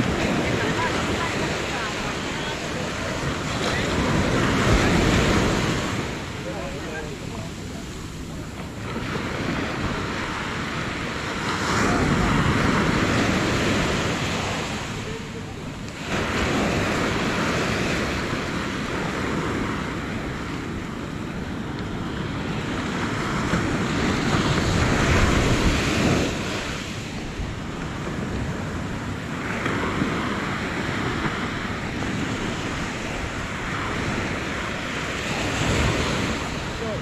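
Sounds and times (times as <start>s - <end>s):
surf breaking on a beach: 0.0s - 37.0s
wind buffeting microphone: 0.0s - 37.0s.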